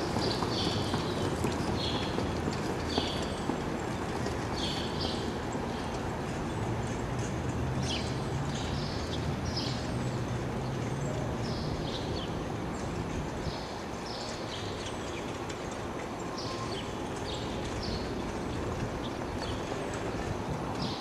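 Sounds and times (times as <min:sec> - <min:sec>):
horse trotting pulling a cart: 0:00.0 - 0:21.0
steady outdoor noise: 0:00.0 - 0:21.0.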